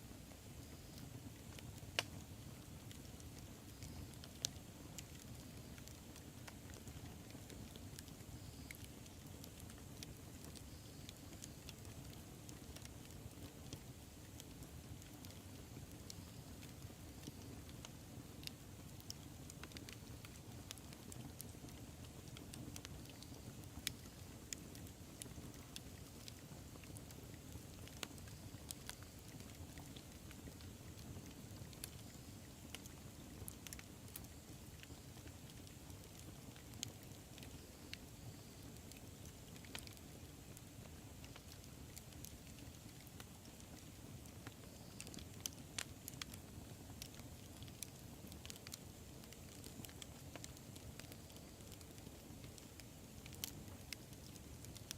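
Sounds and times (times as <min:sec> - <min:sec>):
burning wood crackling and popping: 0:00.0 - 0:54.9
low rumble of flames: 0:00.0 - 0:54.9.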